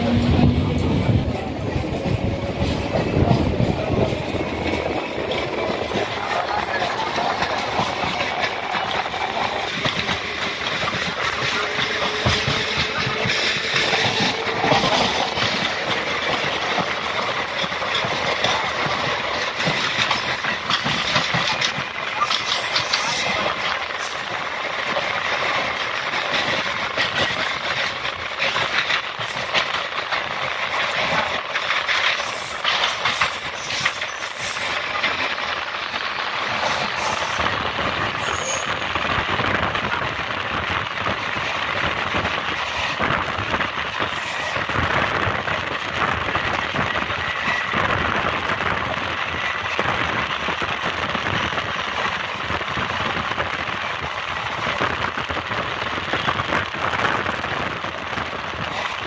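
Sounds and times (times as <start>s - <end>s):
passing train on next track: 0.0s - 59.0s
train wheel and rail noise: 0.0s - 59.0s.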